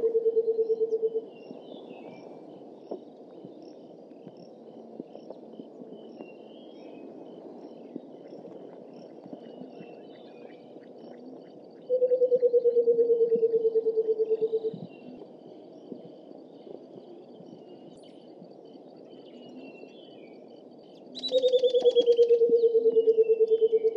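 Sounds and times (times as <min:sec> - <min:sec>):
faint bird chirps: 0:00.0 - 0:02.3, 0:02.9 - 0:23.9.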